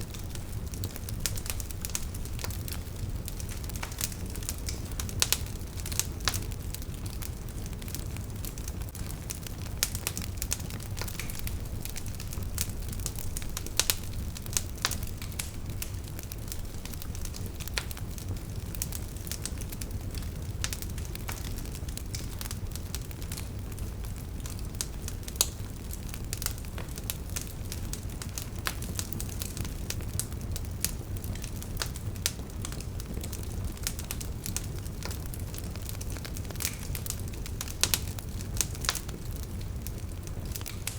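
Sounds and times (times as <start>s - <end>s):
burning logs crackling: 0.0s - 40.9s
low rumble of flames: 0.0s - 40.9s.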